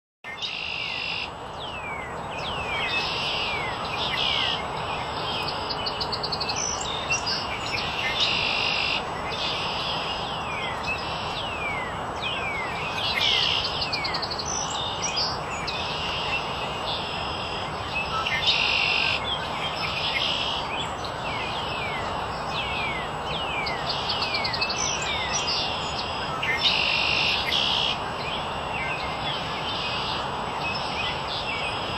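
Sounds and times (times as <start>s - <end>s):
birds singing: 0.3s - 31.9s
background hiss: 0.4s - 31.9s.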